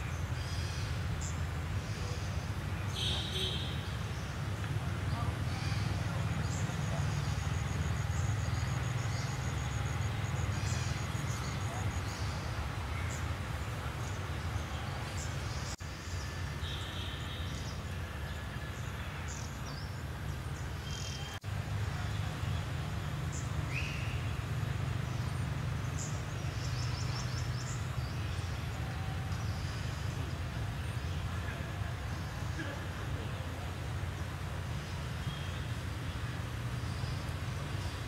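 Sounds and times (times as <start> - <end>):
low rumble with hiss: 0.0 - 38.0.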